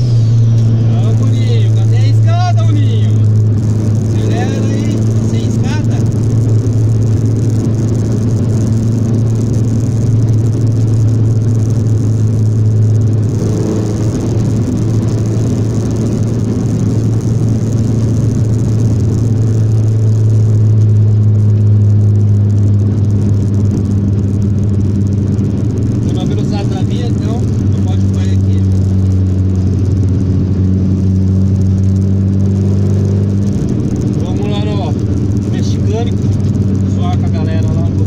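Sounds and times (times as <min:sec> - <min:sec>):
car engine drone from inside cabin: 0:00.0 - 0:38.0
road rumble: 0:00.0 - 0:38.0.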